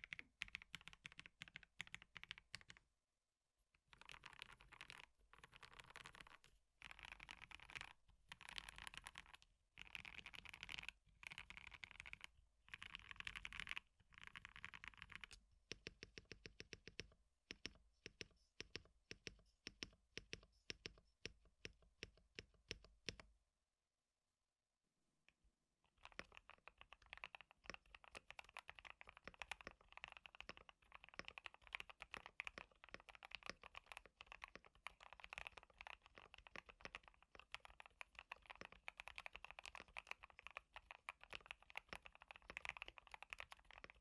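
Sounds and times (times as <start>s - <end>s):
typing on mechanical keyboard: 0.0s - 2.8s, 3.9s - 23.2s, 25.9s - 44.0s.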